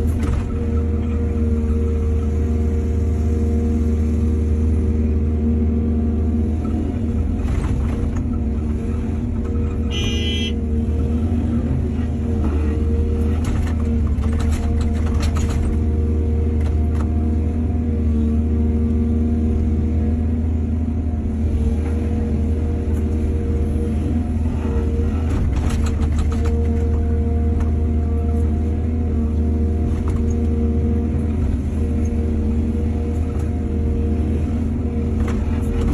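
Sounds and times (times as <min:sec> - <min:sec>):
excavator diesel engine drone: 0:00.0 - 0:35.9.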